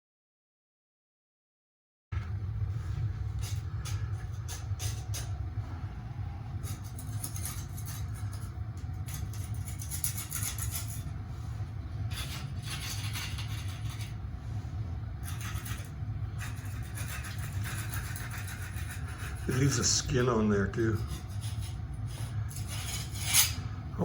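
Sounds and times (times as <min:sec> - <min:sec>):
low machine hum: 0:02.2 - 0:24.0.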